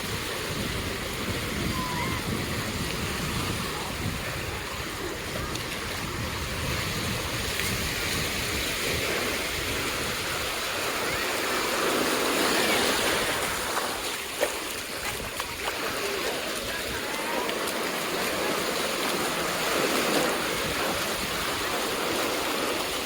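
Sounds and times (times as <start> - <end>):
surf washing up sand: 0.0 - 23.0.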